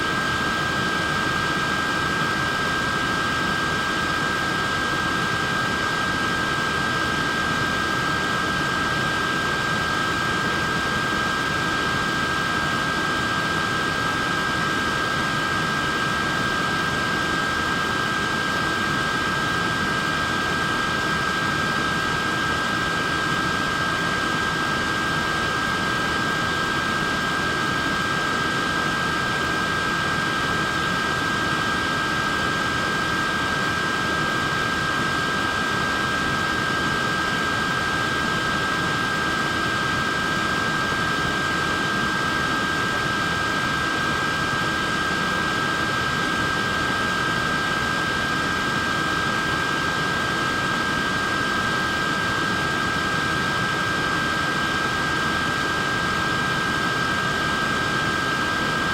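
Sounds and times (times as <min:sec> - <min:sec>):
fan motor whine and air rush: 0:00.0 - 0:58.9.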